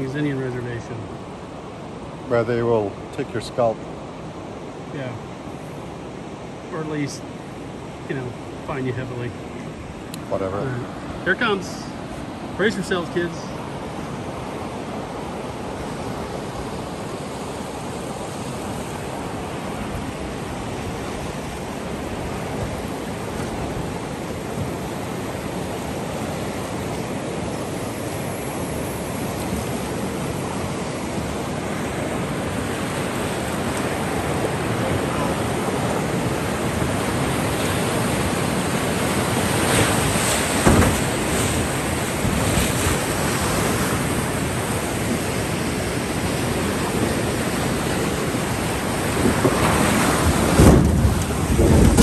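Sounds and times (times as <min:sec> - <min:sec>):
rushing whitewater: 0:00.0 - 0:52.0
waves splashing over bow: 0:00.0 - 0:52.0.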